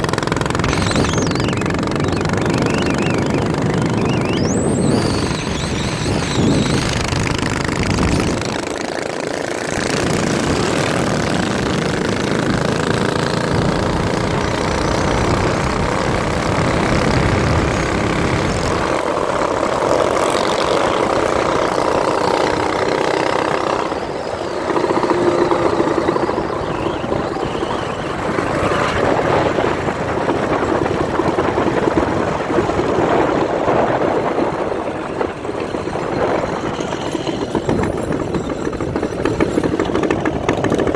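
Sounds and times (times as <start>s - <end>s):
small engine revving: 0.0s - 40.9s.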